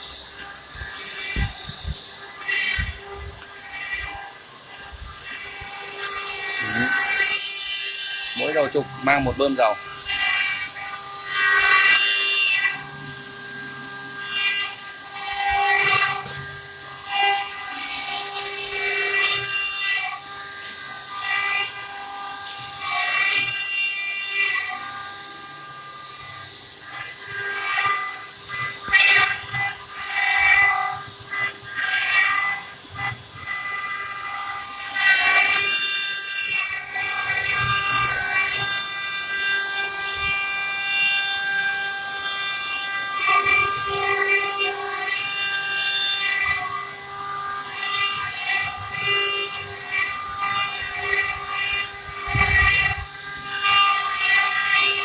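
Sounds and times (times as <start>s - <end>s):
spindles whining: 0.0s - 55.0s.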